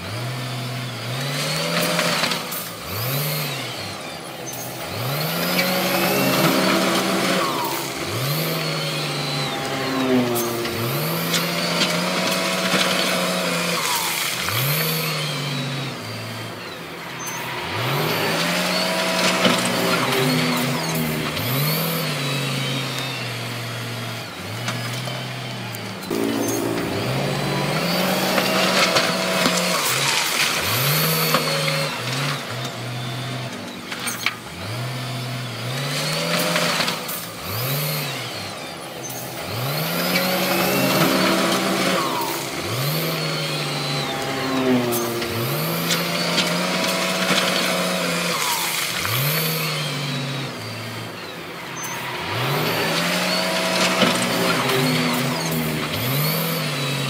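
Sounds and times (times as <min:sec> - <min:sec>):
diesel engine revving: 0:00.0 - 0:57.0
machinery clatter and whine: 0:00.0 - 0:57.0.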